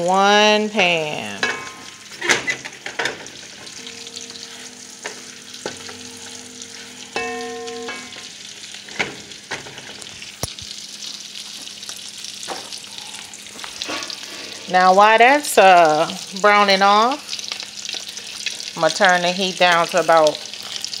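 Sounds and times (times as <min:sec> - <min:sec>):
sausage sizzling in a pan: 0:00.0 - 0:21.0.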